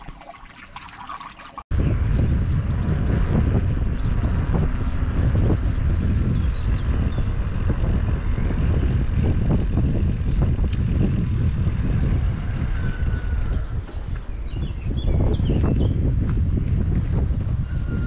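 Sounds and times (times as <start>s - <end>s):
wind buffeting microphone: 1.7s - 18.0s.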